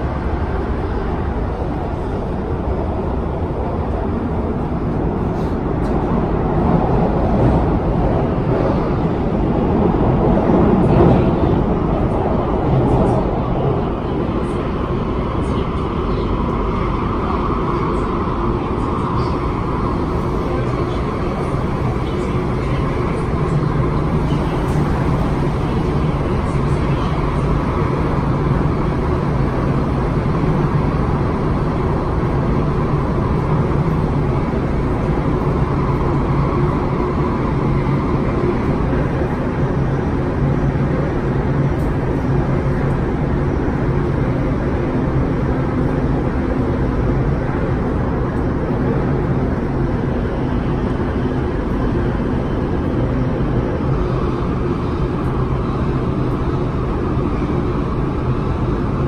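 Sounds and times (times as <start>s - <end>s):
constant low hum: 0.0s - 59.0s
train running noise: 0.0s - 59.0s.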